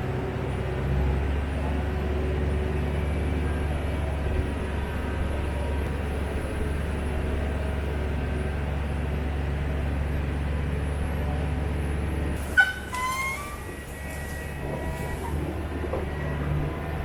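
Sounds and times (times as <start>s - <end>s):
heavy machinery engine droning: 0.0s - 17.0s.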